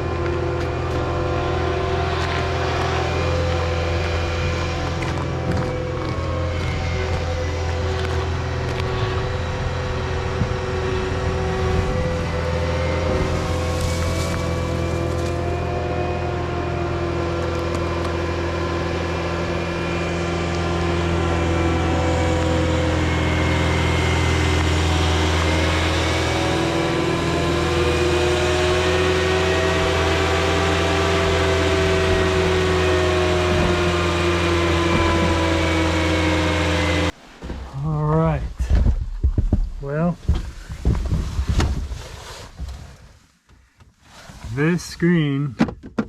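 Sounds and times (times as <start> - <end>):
rising and falling whine: 0.0 - 37.2
diesel engine running: 0.0 - 38.4.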